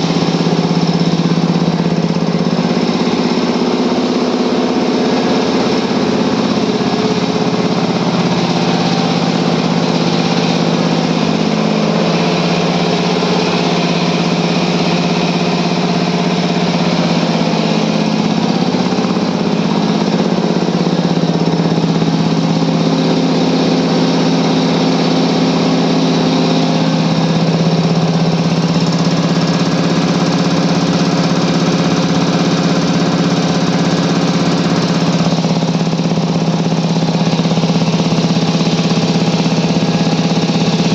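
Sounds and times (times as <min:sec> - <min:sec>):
air compressors droning: 0:00.0 - 0:40.9.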